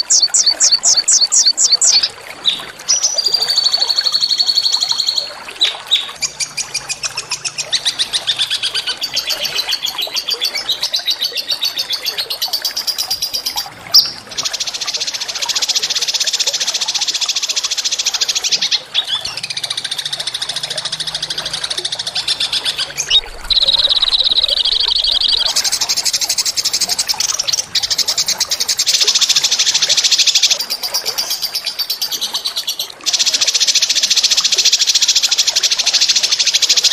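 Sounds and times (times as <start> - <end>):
songbirds singing rolling trills: 0.0 - 36.9.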